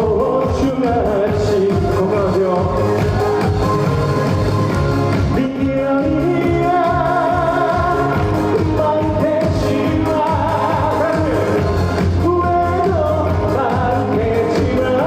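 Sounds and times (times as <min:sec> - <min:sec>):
backing track with steady beat: 0:00.0 - 0:15.0
person singing live: 0:00.0 - 0:15.0.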